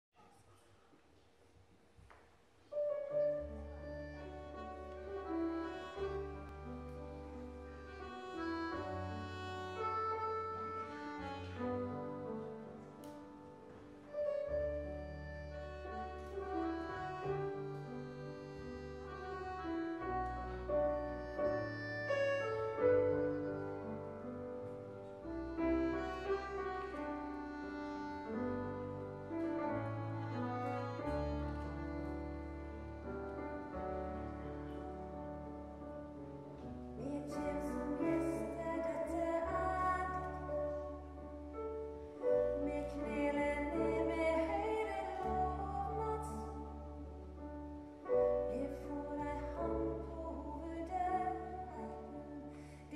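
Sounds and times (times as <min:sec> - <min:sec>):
grand piano: 0:02.6 - 0:52.9
accordion: 0:03.1 - 0:52.6.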